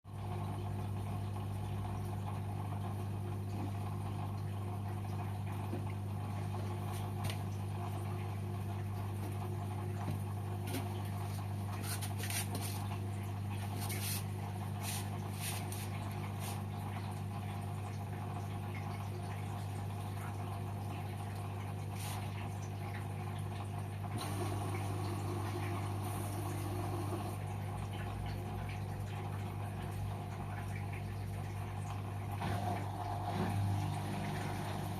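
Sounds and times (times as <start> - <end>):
washing machine humming: 0.1 - 34.9
water sounds: 0.1 - 34.9.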